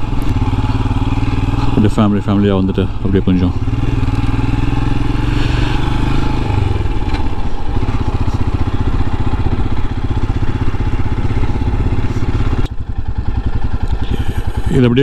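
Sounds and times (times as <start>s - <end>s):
motorcycle engine exhaust pulses: 0.0s - 15.0s.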